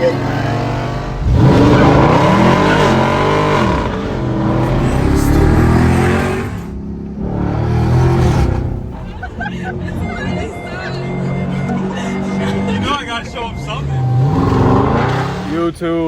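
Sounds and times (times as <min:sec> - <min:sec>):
vehicle engine revving and accelerating: 0:00.0 - 0:10.0, 0:11.3 - 0:15.8.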